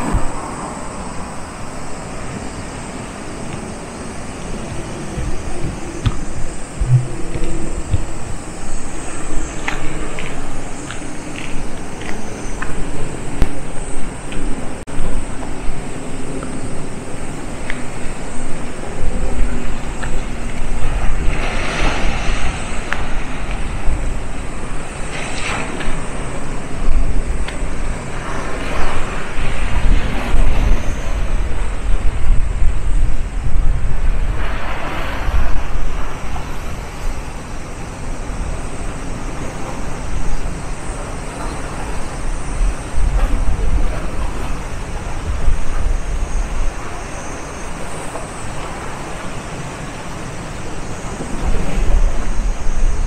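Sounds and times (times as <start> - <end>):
waves washing on shore: 0.0 - 53.0
wind buffeting microphone: 0.0 - 53.0.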